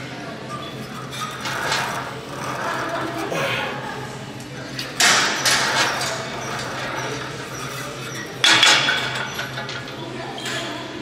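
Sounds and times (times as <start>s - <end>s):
gym equipment clattering: 0.5s - 10.7s.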